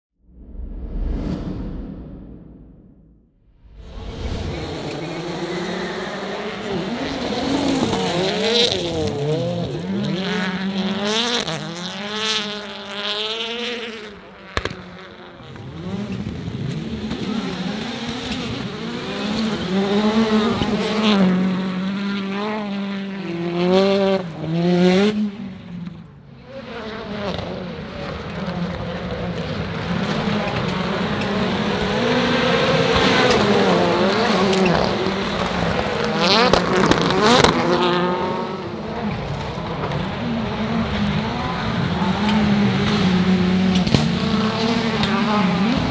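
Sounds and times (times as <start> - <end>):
racing car engines revving: 3.6 - 45.9.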